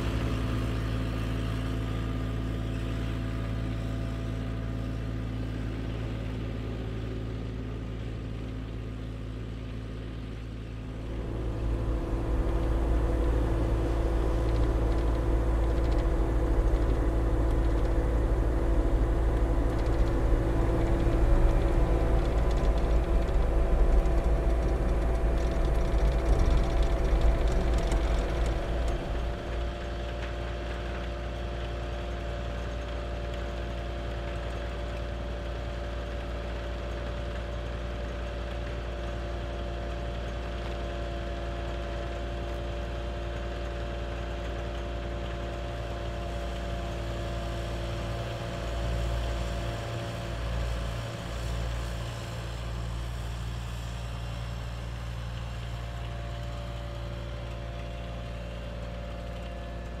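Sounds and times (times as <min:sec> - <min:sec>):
excavator diesel engine running: 0:00.0 - 1:00.0.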